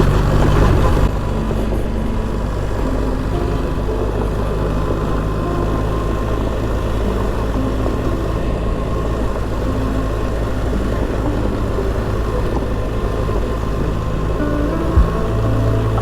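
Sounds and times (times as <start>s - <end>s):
motorcycle engine running: 0.0s - 16.0s
wind noise on microphone: 0.0s - 16.0s.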